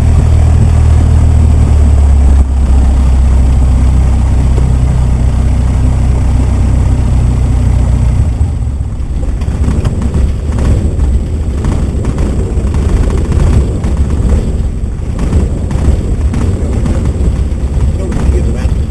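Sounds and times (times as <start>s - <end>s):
propeller plane engine drone: 0.0s - 18.9s.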